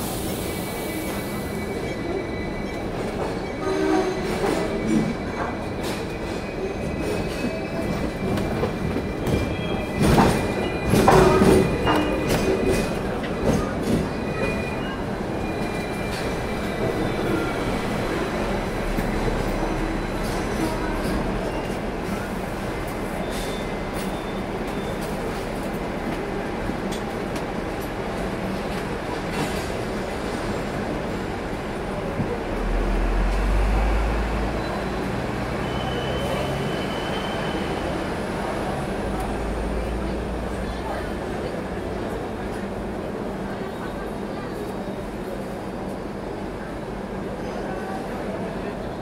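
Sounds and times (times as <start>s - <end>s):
tram clanks: 0.0s - 49.0s
tram wheels rumbling on rails: 0.0s - 49.0s.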